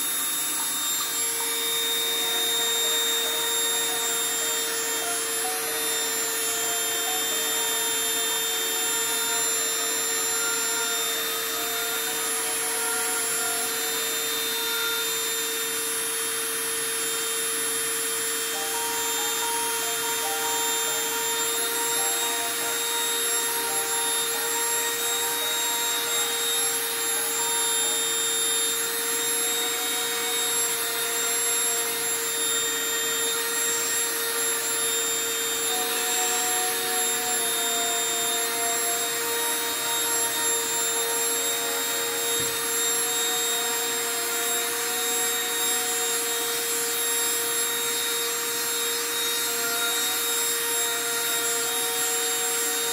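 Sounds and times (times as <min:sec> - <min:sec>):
rotary tool drilling glass: 0:00.0 - 0:52.9.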